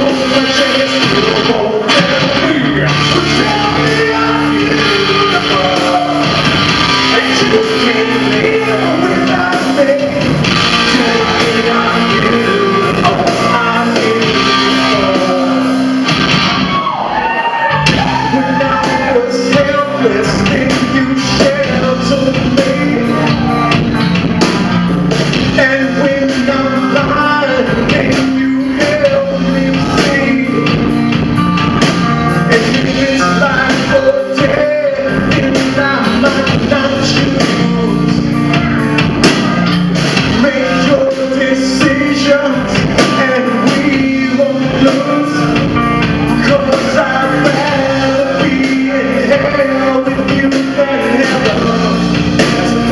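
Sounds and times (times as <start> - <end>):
drum kit: 0.0 - 52.9
electric guitar: 0.0 - 52.9
person singing: 0.0 - 52.9.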